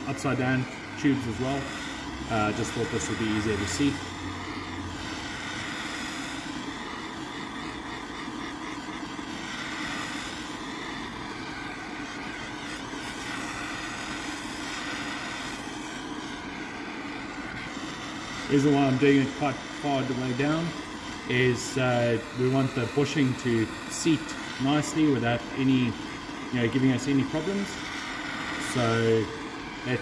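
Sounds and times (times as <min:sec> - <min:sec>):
blowtorch hissing: 0:00.0 - 0:30.0.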